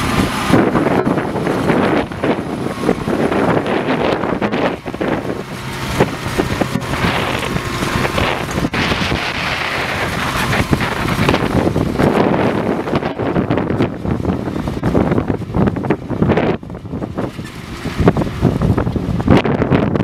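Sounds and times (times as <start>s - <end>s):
plough turning soil: 0.0s - 19.4s
tractor diesel engine: 0.0s - 20.0s
wind buffeting microphone: 0.0s - 20.0s.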